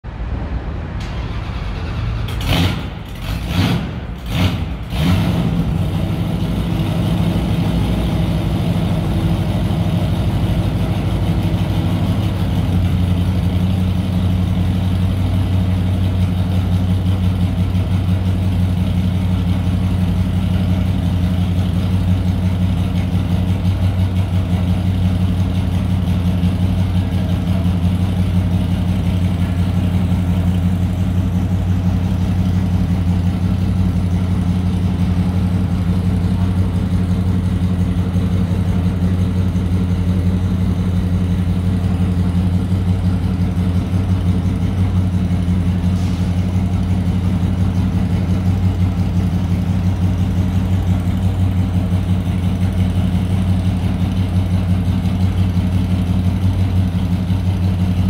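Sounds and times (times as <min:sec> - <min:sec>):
car engine starting and idling: 0:00.0 - 0:58.0.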